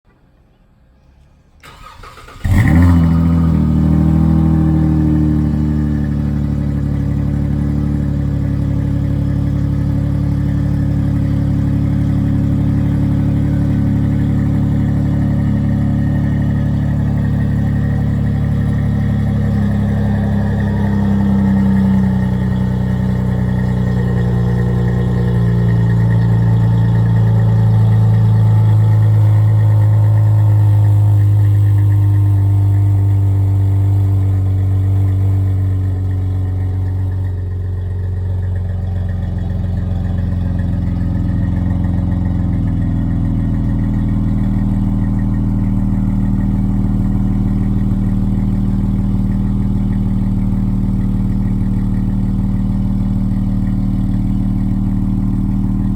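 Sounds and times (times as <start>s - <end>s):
car engine idling: 0.1s - 55.9s.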